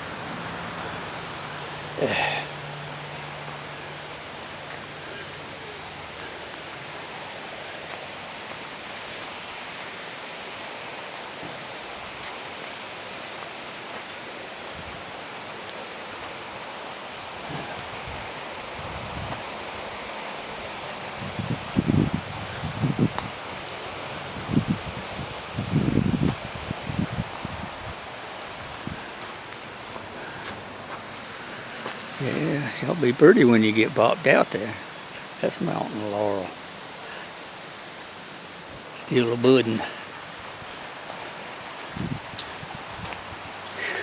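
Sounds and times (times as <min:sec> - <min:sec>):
rush of flowing water: 0:00.0 - 0:44.0.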